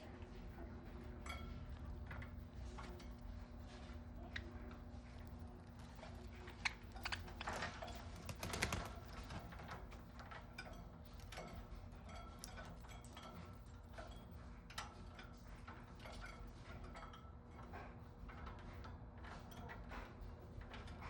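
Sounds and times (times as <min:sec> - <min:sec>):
birds moving in a cage: 0:00.3 - 0:21.0.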